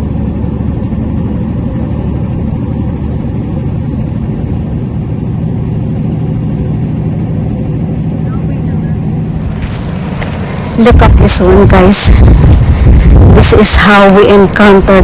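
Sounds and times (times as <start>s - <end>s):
heavy truck driving: 0.0s - 15.0s.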